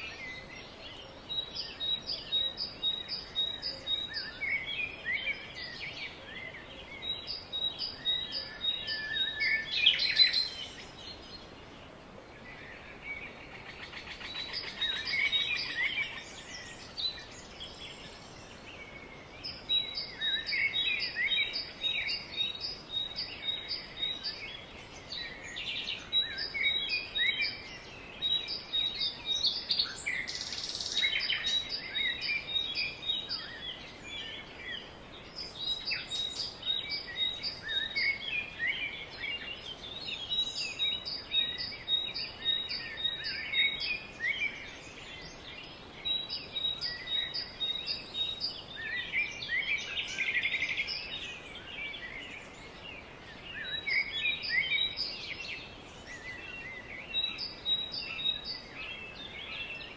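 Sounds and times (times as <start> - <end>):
birds warbling and chirping: 0.0 - 59.9.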